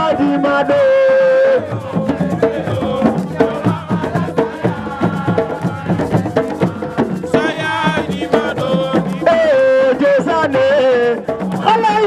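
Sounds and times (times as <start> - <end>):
call-and-response singing: 0.0 - 12.0
quick percussion: 0.0 - 12.0.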